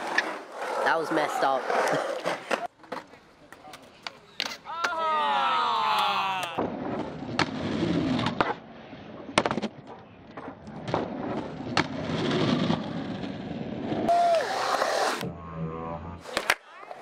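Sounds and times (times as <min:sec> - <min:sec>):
skateboard wheels rolling on concrete: 0:00.0 - 0:15.3, 0:16.2 - 0:17.0.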